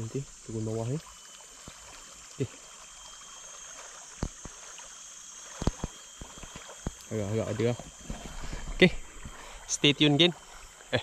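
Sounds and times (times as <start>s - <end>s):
flowing river water: 0.0s - 11.0s.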